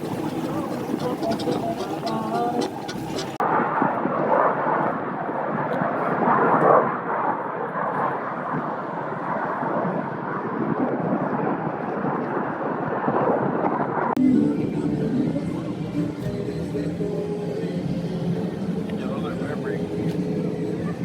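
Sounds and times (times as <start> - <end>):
jet aircraft passing overhead: 0.0 - 21.0.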